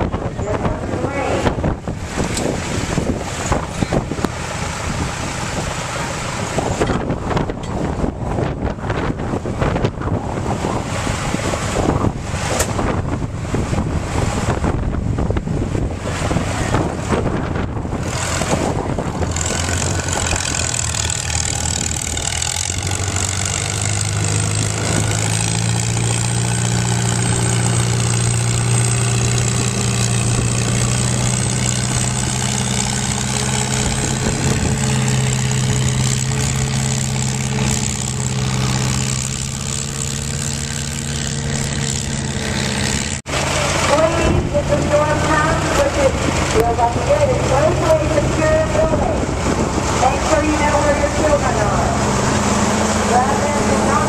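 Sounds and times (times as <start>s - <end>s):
tractor engine running under load: 0.0s - 54.0s
tractor engines in background: 0.0s - 54.0s
wind buffeting microphone: 0.0s - 54.0s.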